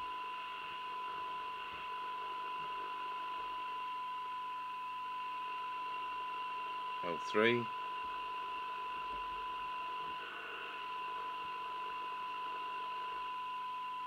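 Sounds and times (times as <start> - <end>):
steady test tone with hiss: 0.0 - 14.0.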